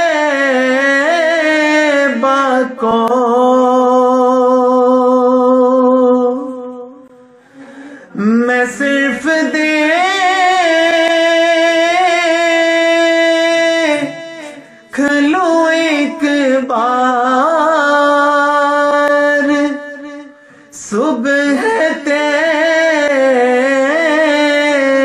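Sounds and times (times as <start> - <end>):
man singing unaccompanied: 0.0 - 7.2, 8.1 - 25.0.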